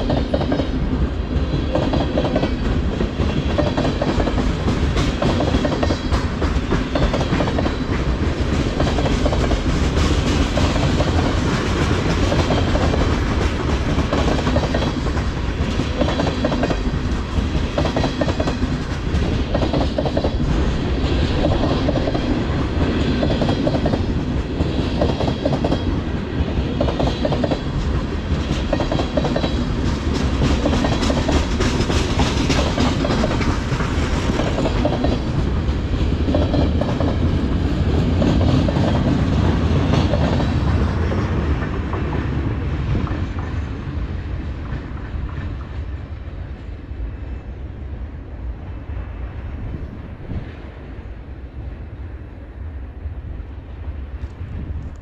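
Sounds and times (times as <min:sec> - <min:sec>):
train wheels clickety-clack: 0:00.0 - 0:46.8
train rumble: 0:00.0 - 0:55.0.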